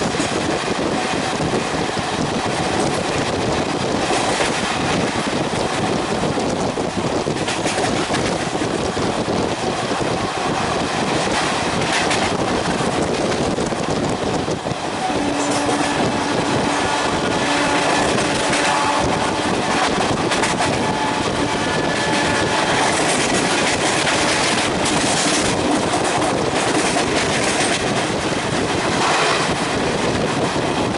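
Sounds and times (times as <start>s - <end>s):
train rushing roar: 0.0s - 30.9s
wind buffeting microphone: 0.0s - 30.9s.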